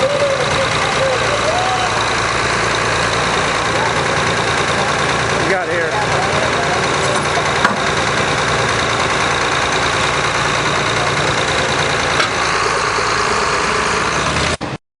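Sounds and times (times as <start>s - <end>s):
tractor diesel engine running: 0.0s - 14.8s.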